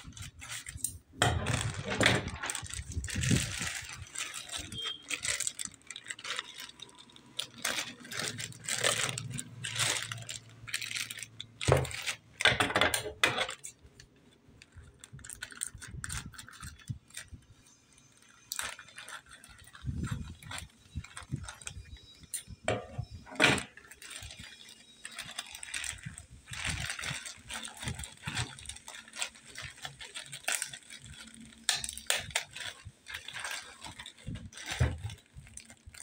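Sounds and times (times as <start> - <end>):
plastic mailer bag crinkling: 0.0 - 12.6, 14.6 - 36.0.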